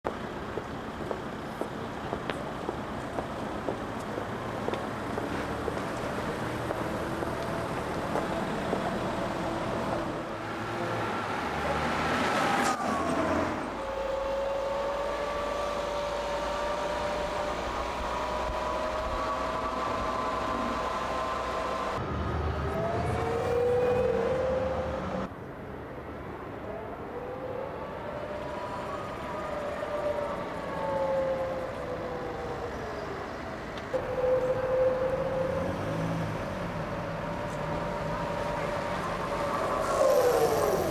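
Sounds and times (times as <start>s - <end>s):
road and street noise: 0.0s - 40.9s.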